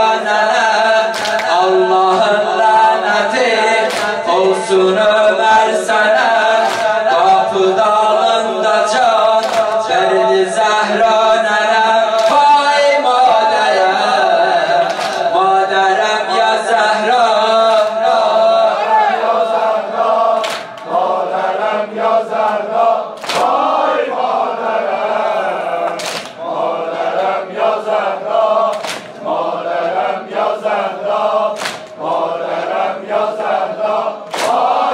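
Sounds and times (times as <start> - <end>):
group chanting in unison: 0.0 - 34.9
sharp rhythmic slaps: 0.0 - 34.9.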